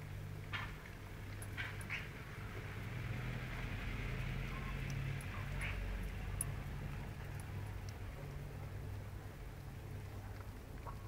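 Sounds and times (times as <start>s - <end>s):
background noise rush: 0.0s - 11.0s.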